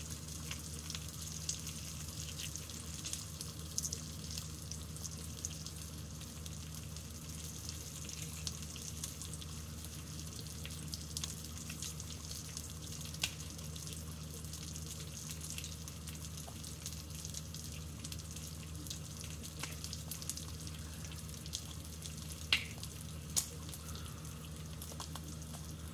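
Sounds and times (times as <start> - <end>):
bacon sizzling in a pan: 0.0 - 25.8
low steady hum: 0.0 - 25.9.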